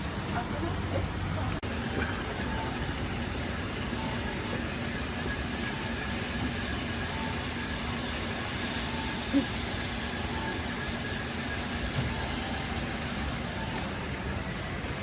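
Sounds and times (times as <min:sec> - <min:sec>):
train rumbling and humming: 0:00.0 - 0:15.0.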